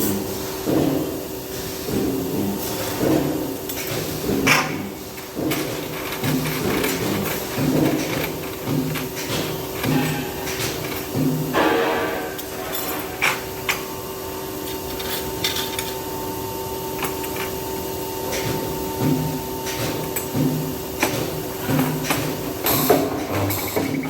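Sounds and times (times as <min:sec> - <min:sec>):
machinery electrical hum: 0:00.0 - 0:24.0.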